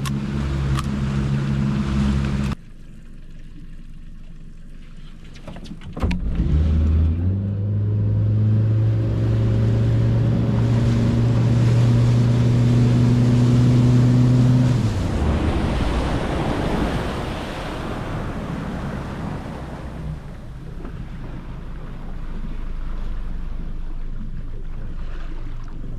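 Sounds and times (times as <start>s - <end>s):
boat motor running: 0.0s - 25.9s
water noise: 0.0s - 25.9s
wind: 0.0s - 25.9s.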